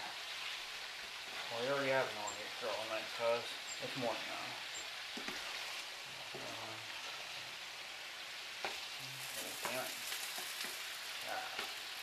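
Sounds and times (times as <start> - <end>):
meatballs sizzling in pan: 0.0 - 12.0.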